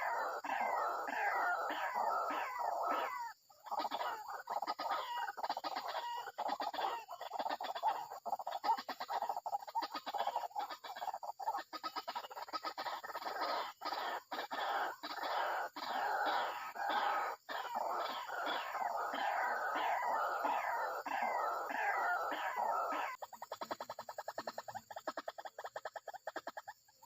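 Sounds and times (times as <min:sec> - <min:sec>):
waterhen clucking and croaking: 0:00.0 - 0:27.0.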